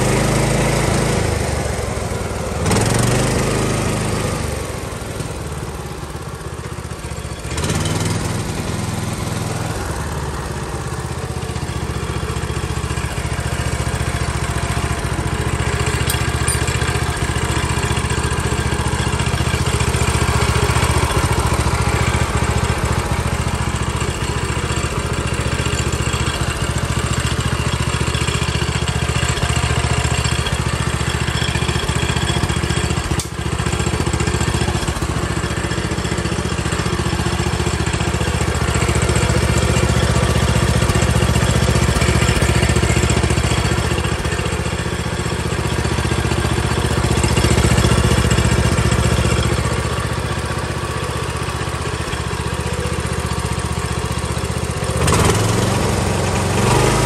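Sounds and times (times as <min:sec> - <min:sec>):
petrol engine idling: 0:00.0 - 0:57.0.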